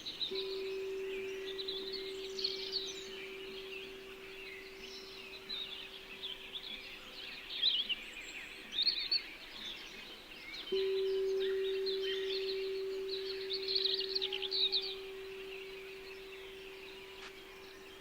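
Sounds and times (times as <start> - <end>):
singing bowl ringing: 0.0 - 7.5, 10.7 - 18.0
small birds chirping: 0.0 - 18.0.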